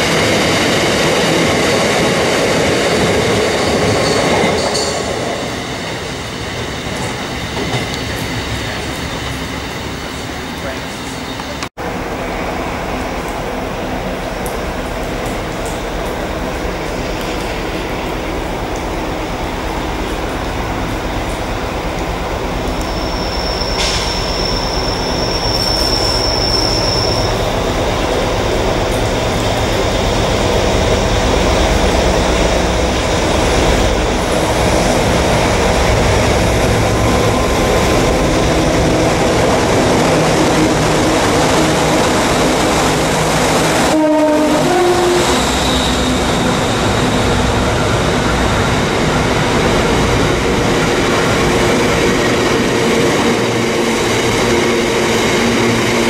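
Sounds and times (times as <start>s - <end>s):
diesel locomotive passing: 0.0s - 56.0s.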